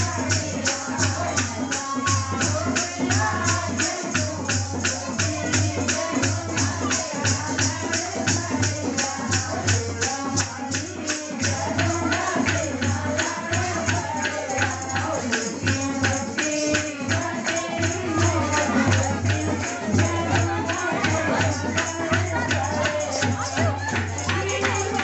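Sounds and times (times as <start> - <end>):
hand percussion beat: 0.0 - 25.0
jingling tambourine strokes: 0.0 - 25.0
woman singing into a microphone: 0.0 - 25.0.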